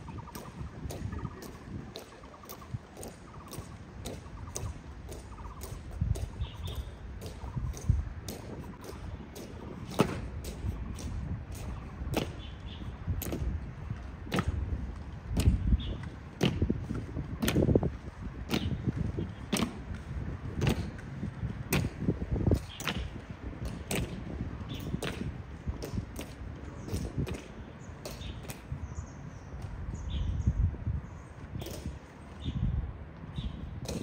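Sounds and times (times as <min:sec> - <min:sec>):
boots marching on stone: 0:00.2 - 0:28.7.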